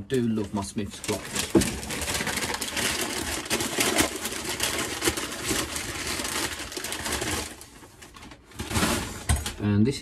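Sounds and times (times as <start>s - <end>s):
paper rustling and crinkling: 0.1s - 9.5s.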